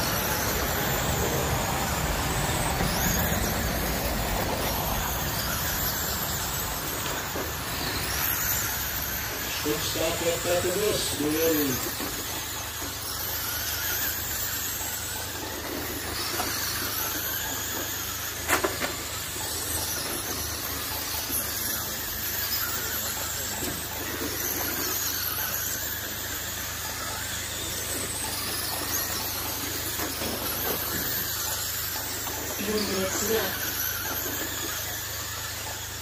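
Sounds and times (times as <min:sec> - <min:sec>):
rc truck motors whining: 0:00.0 - 0:36.0.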